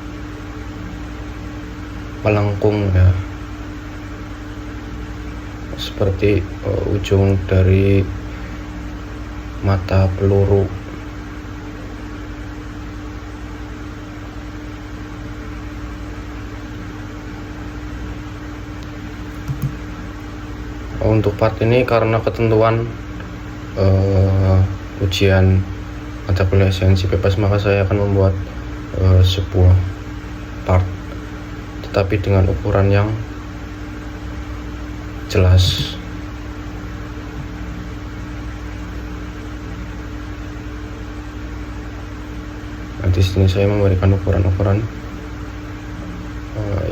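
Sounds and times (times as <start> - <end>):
background hum and hiss: 0.0 - 46.9.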